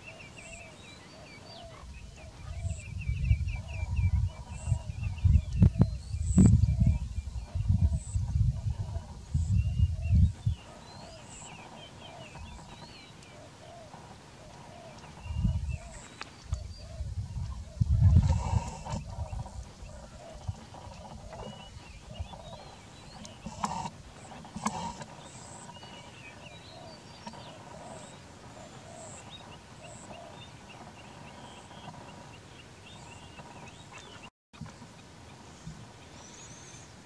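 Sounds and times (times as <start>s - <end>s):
birds chirping: 0.0s - 34.3s.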